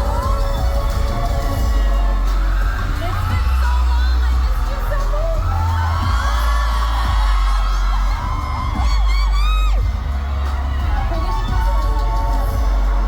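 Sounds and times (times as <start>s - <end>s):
audience whoops and screams: 0.0s - 13.0s
live pop music with heavy bass: 0.0s - 13.0s.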